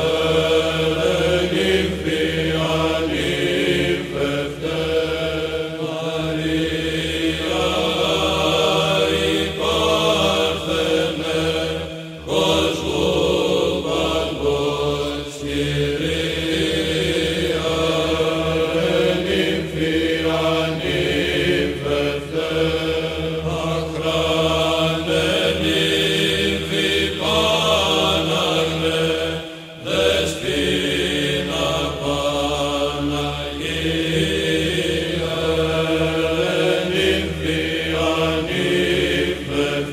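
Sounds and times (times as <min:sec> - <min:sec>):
chanted vocal music: 0:00.0 - 0:39.9
steady held drone note: 0:00.0 - 0:39.9.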